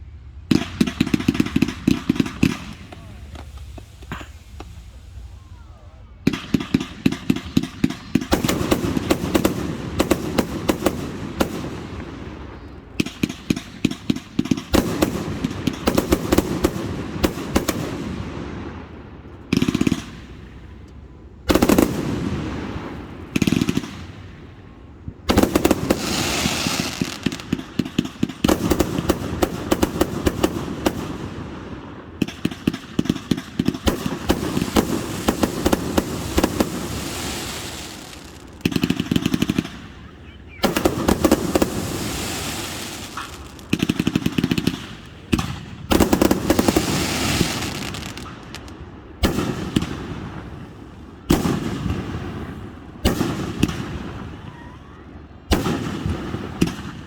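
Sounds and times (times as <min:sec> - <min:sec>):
fireworks bangs and crackle: 0:00.0 - 0:57.0.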